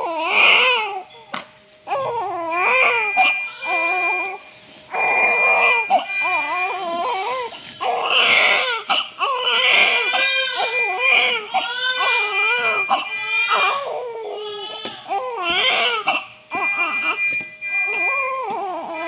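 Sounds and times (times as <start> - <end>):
newborn baby crying: 0.0 - 1.1, 1.9 - 17.2, 17.9 - 19.0.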